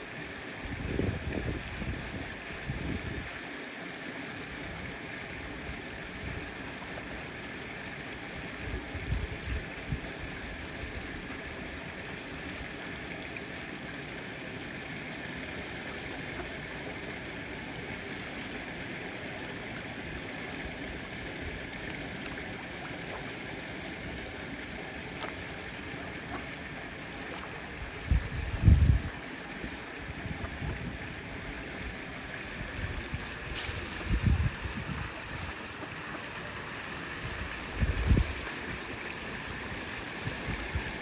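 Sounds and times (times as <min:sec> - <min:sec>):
water rushing: 0:00.0 - 0:41.0.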